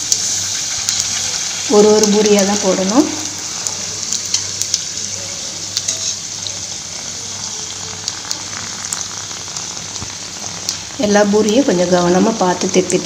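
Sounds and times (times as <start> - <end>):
oil crackling and popping: 0.0 - 13.0
oil sizzling: 0.0 - 13.0.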